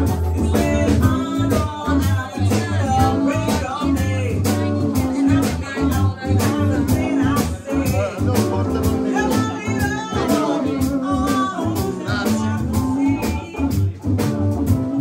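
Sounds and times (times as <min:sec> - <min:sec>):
woman singing: 0:00.0 - 0:13.9
drum kit steady beat: 0:00.0 - 0:15.0
electric bass: 0:00.0 - 0:15.0
electric guitar: 0:00.0 - 0:15.0
keyboard: 0:00.0 - 0:15.0.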